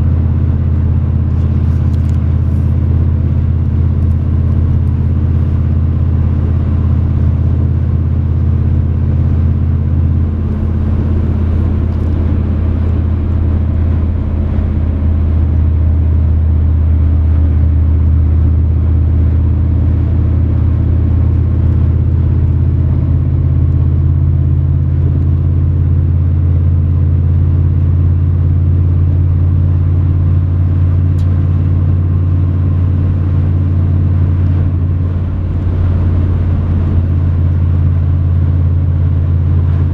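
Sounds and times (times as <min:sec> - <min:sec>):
pickup truck engine droning: 0:00.0 - 0:39.9.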